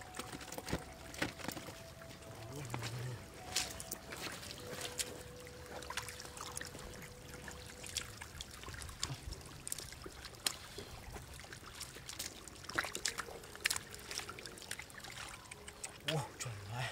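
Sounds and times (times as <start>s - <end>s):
water trickling and splashing: 0.0s - 16.9s.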